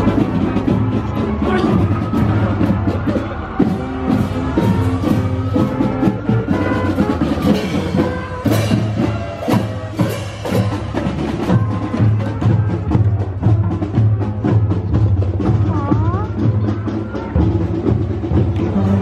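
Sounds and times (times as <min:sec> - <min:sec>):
marching band playing: 0:00.0 - 0:19.0
snare and bass drum beat: 0:00.0 - 0:19.0.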